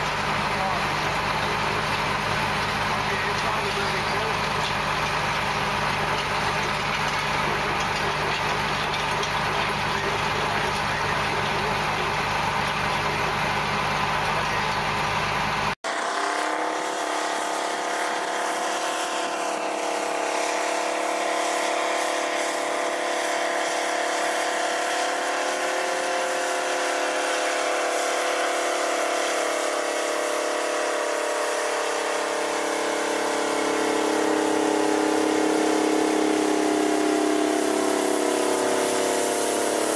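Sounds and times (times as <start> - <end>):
tractor diesel engine under load: 0.0 - 39.9
tractor engine drone with held tones: 0.0 - 39.9.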